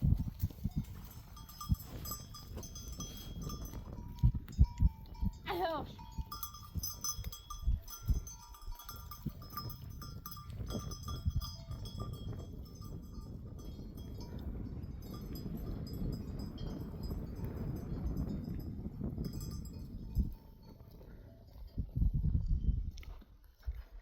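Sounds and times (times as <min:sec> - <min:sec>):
animal bells clinking: 0:00.0 - 0:22.8.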